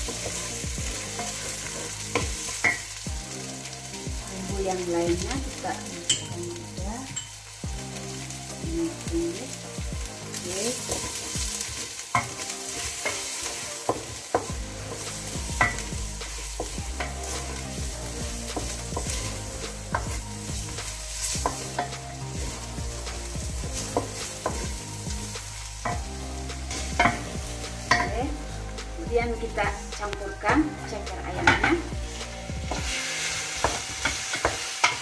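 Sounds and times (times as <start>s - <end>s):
food sizzling in oil: 0.0s - 35.0s.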